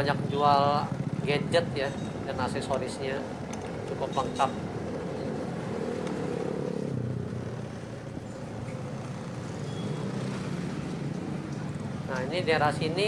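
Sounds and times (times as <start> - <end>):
scooters and motorcycles passing: 0.0 - 13.0.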